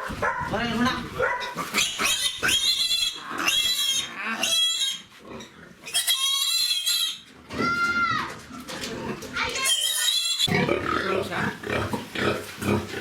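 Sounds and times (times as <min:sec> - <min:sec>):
pigs squealing: 0:00.8 - 0:08.0, 0:09.0 - 0:13.0.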